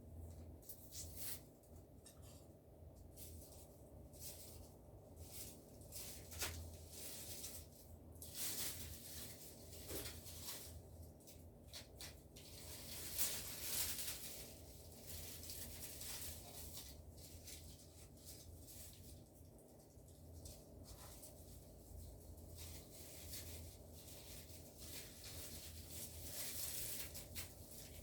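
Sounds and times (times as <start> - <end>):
dry leaves rustling: 3.2 - 19.3, 20.5 - 28.0.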